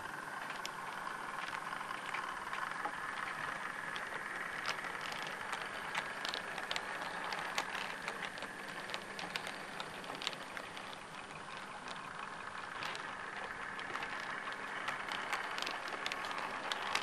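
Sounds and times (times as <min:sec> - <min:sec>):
light clicks and rattles: 0:00.0 - 0:17.0
model train motor whine: 0:00.0 - 0:17.0.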